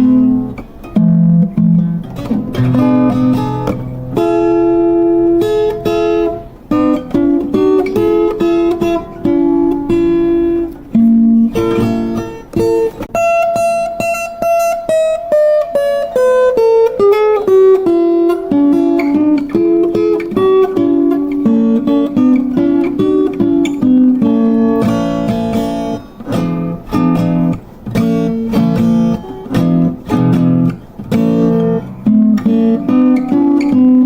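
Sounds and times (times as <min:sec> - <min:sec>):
plucked string instrument: 0:00.0 - 0:34.0.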